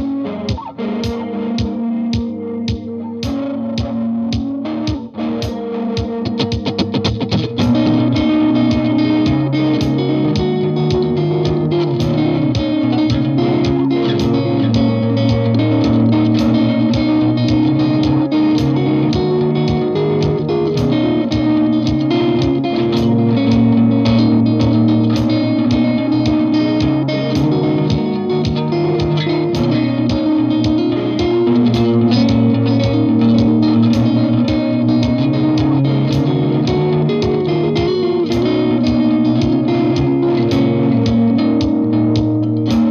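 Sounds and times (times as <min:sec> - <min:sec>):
electric guitar with echo: 0:00.0 - 0:42.9.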